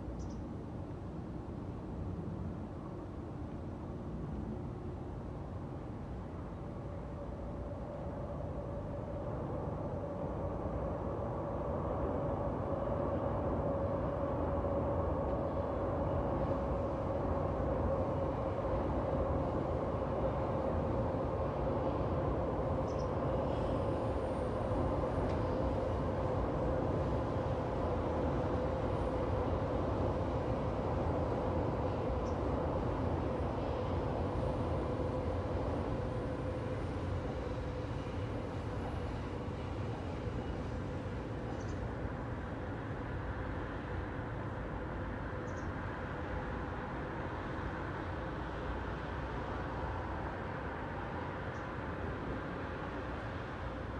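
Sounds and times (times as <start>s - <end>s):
distant traffic hum: 0.0s - 53.9s
faint steady tone: 4.6s - 53.9s.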